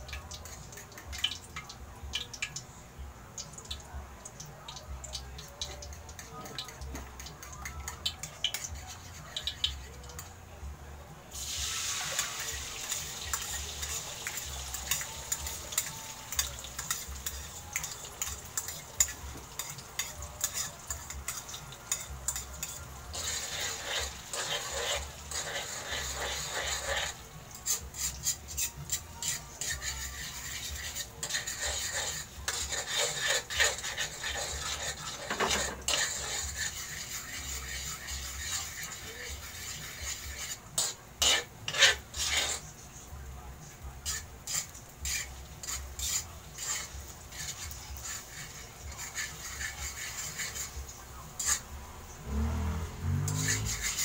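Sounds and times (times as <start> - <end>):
utensil scraping and tapping wok: 0.0 - 2.7, 3.4 - 10.4, 11.3 - 54.0
egg sizzling in hot oil: 0.0 - 10.4, 11.3 - 54.0.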